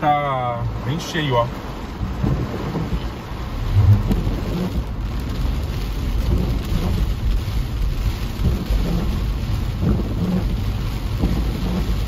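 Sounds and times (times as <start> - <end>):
heavy rain on a car roof: 0.0 - 12.0
steady low rumble: 1.5 - 12.0.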